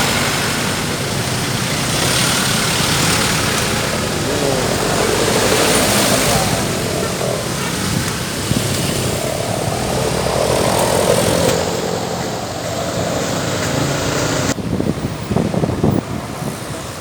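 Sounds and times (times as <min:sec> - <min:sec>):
heavy vehicle engine: 0:00.0 - 0:17.0
road traffic passing: 0:00.0 - 0:17.0.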